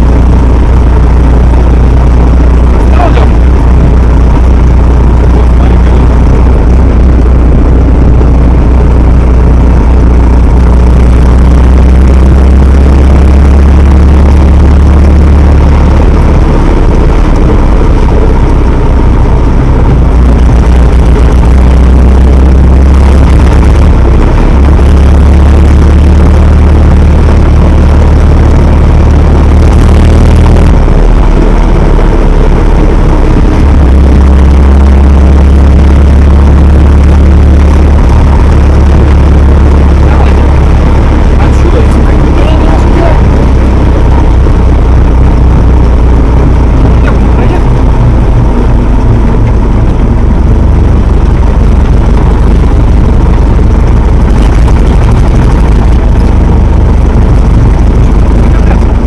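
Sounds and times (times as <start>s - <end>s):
jeep engine low drone: 0.0s - 59.0s.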